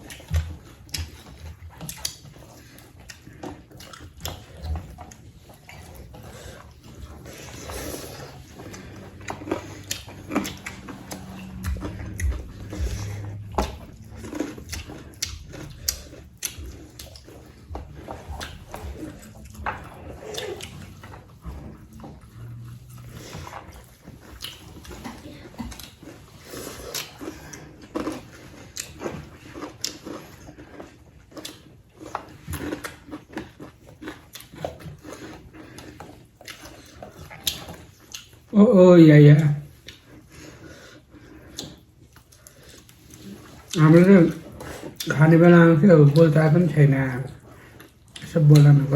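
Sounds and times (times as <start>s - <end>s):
wet chewing: 0.0s - 48.9s.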